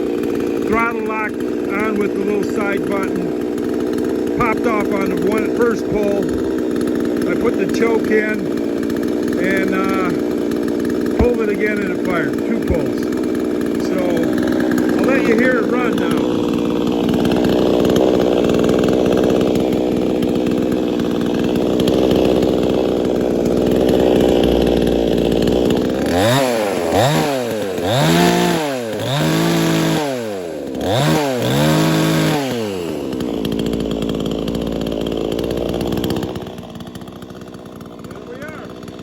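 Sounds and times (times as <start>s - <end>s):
chainsaw idling and revving: 0.0s - 39.0s.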